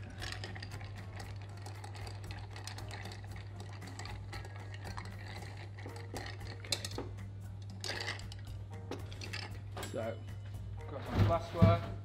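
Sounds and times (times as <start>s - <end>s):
spoon stirring ice in glass: 0.0s - 10.0s.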